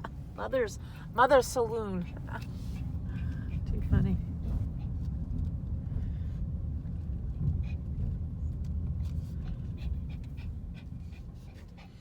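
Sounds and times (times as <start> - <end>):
engine and road noise: 0.0 - 12.0.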